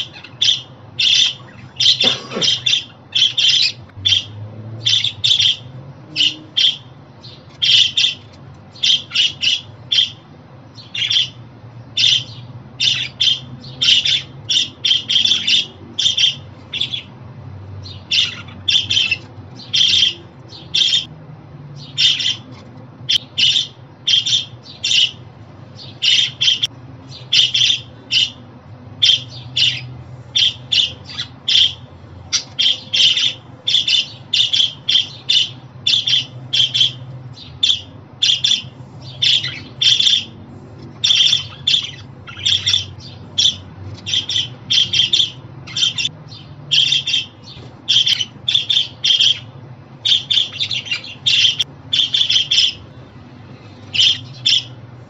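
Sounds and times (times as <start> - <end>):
budgerigars chirping: 0.0 - 11.4, 12.0 - 17.2, 17.8 - 21.1, 21.8 - 25.2, 25.8 - 53.0, 53.8 - 54.9.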